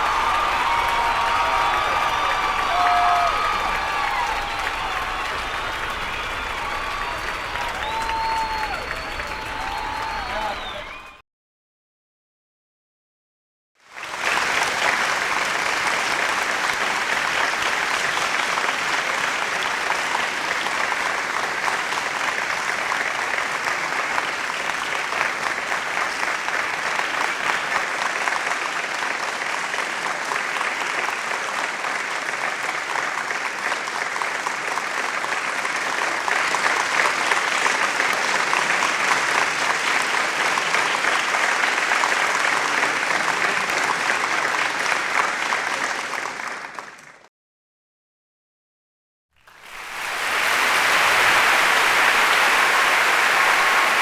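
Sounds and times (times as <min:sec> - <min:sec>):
crowd applauding: 0:00.0 - 0:11.2, 0:13.9 - 0:47.3, 0:49.4 - 0:54.0.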